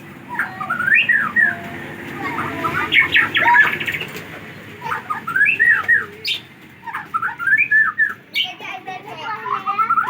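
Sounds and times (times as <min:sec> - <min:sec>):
bird whistled song: 0:00.2 - 0:04.2, 0:04.8 - 0:08.6, 0:09.4 - 0:10.0.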